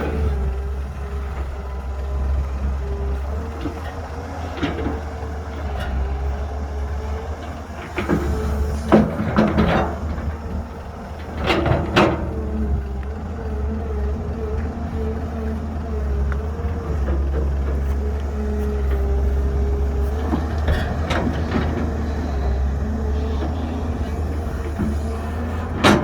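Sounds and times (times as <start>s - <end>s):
diesel engine rumble: 0.0s - 26.0s.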